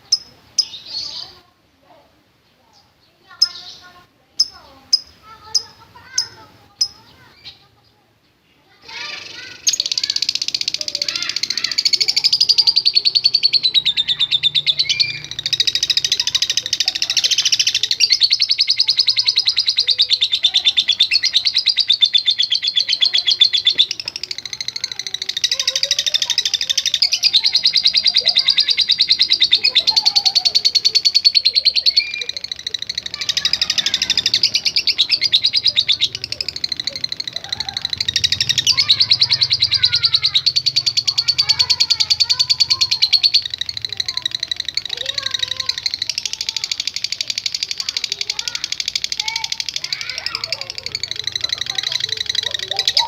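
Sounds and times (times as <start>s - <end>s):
lovebird rapid chattering song: 0.0s - 1.4s, 2.7s - 7.9s, 8.8s - 53.0s.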